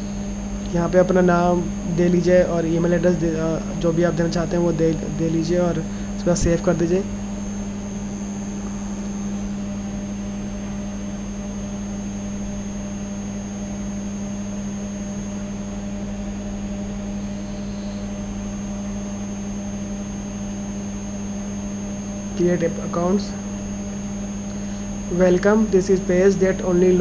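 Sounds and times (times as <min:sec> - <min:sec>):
electrical hum: 0:00.0 - 0:27.0
high constant whine: 0:00.0 - 0:27.0.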